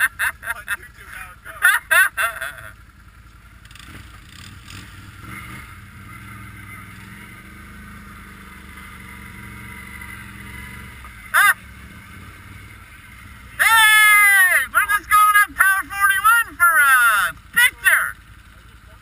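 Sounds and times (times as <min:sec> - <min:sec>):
atv engines idling: 0:00.0 - 0:19.0.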